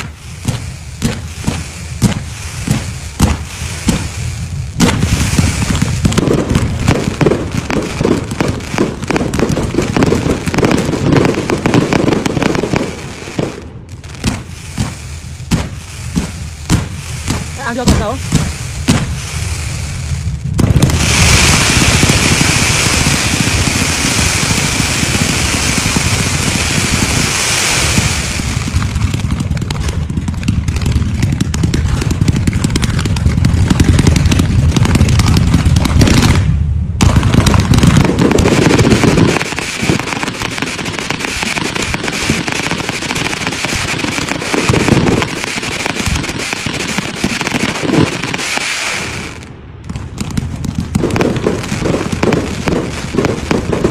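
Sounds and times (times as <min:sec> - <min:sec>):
fireworks bangs: 0:00.0 - 0:53.9
fireworks crackling: 0:00.0 - 0:53.9.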